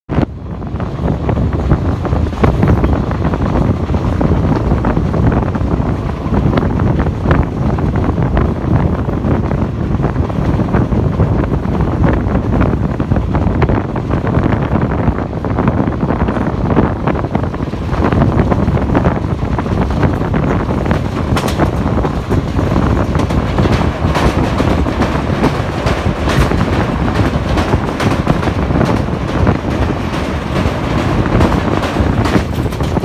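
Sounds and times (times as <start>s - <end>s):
wind rushing over microphone: 0.0s - 33.0s
train coaches rumbling on track: 0.1s - 33.0s.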